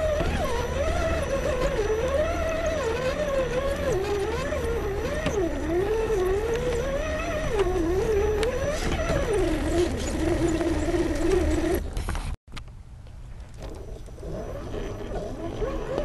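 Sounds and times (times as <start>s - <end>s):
electric motor and gear whine: 0.0s - 12.4s, 13.5s - 16.0s.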